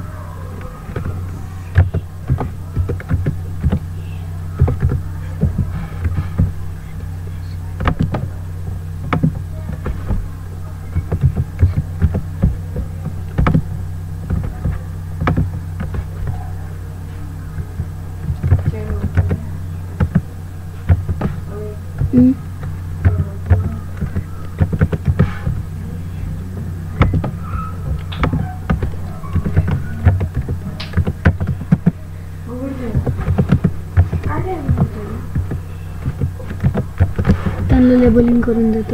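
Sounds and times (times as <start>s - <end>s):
steady low hum: 0.0s - 38.9s
sharp clicks or knocks: 0.6s - 16.4s, 17.0s - 32.0s, 32.8s - 38.9s.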